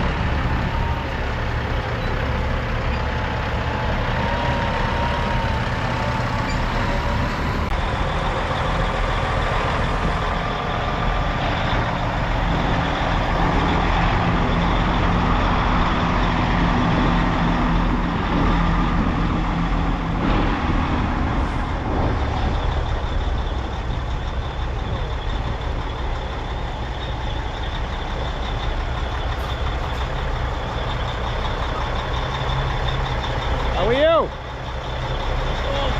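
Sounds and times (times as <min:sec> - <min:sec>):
diesel truck engines rumbling: 0:00.0 - 0:35.9.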